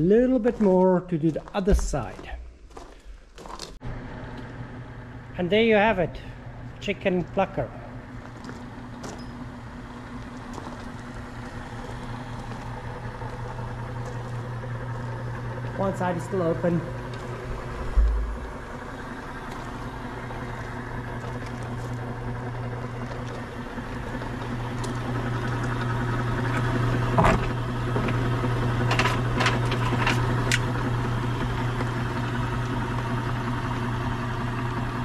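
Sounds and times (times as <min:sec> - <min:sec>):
electric motor humming: 0:03.9 - 0:35.0.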